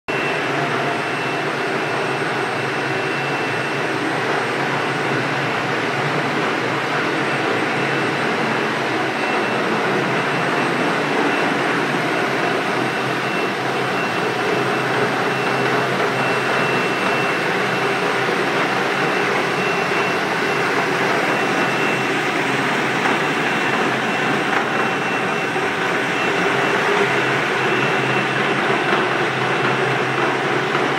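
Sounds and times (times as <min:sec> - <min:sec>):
concrete floor grinder grinding: 0:00.1 - 0:30.9
vacuum high whine: 0:00.1 - 0:30.9.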